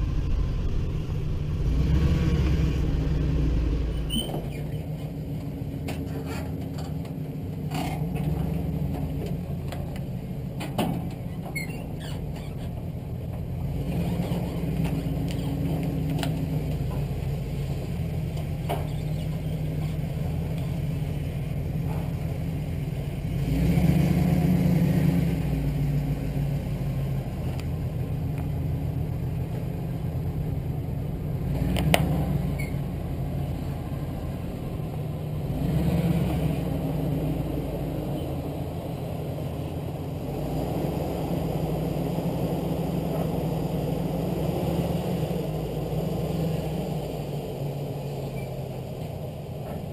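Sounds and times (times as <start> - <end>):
pickup truck engine running: 0.0 - 49.9.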